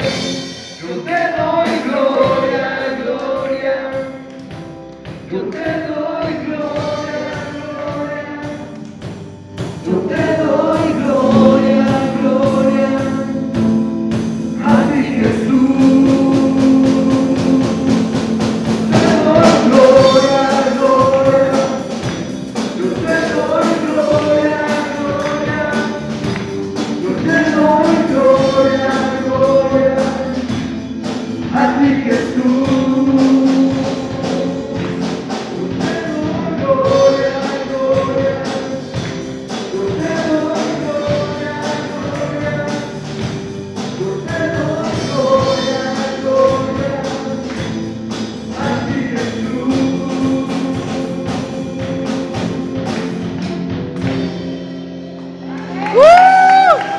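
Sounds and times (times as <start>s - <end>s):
men singing together: 0.0s - 4.3s, 5.3s - 8.8s, 9.8s - 13.8s, 14.6s - 53.2s
amplified drum kit: 0.0s - 56.9s
guitars: 0.0s - 56.9s
keyboard: 0.0s - 56.9s.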